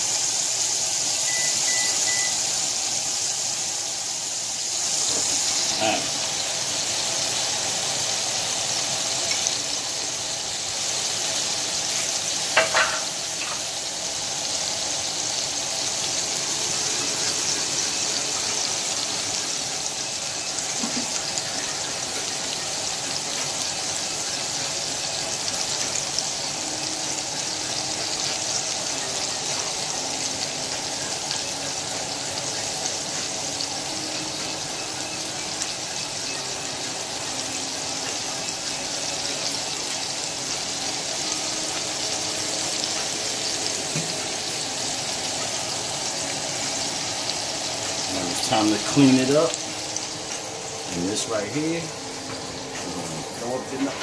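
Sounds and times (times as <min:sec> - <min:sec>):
patties sizzling in oil: 0:00.0 - 0:54.0.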